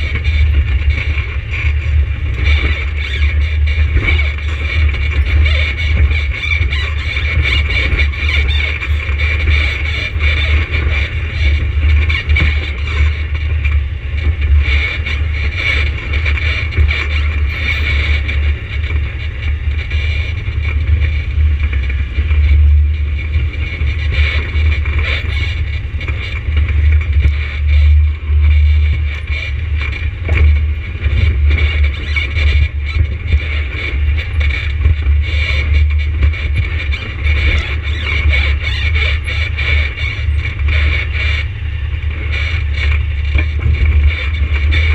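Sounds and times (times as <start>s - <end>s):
atv engine running: 0.0s - 44.9s.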